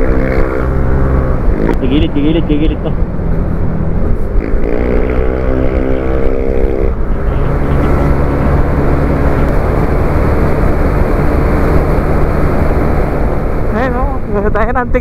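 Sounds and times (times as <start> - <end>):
scooter engine accelerating: 0.0 - 14.0
heavy wind noise: 0.0 - 15.0
road noise: 0.0 - 15.0.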